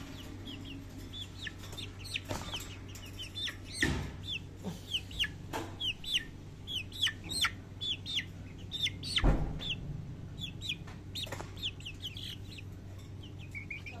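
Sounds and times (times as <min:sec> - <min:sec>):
chickens peeping: 0:00.0 - 0:14.0.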